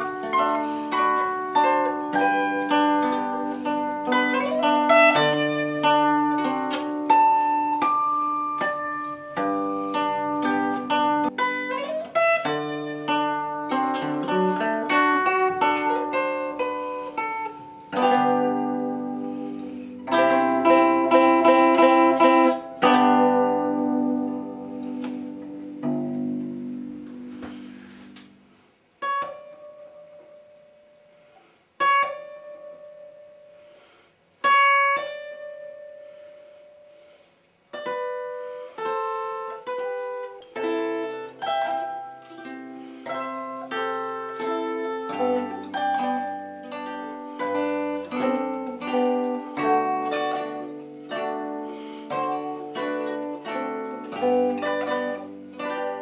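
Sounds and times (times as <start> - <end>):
zither bass notes: 0.0 - 28.4, 37.7 - 56.0
zither plucked notes: 0.0 - 56.0.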